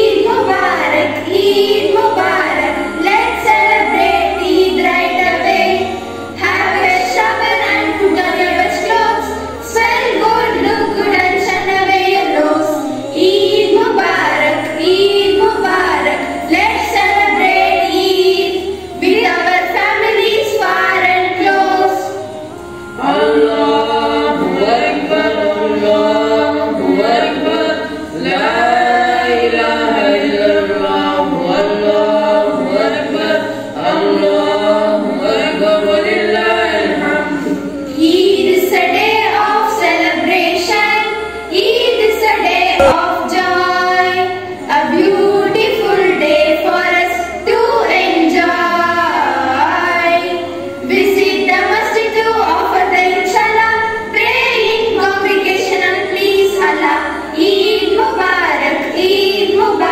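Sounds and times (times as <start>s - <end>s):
group of girls singing: 0.0s - 59.9s.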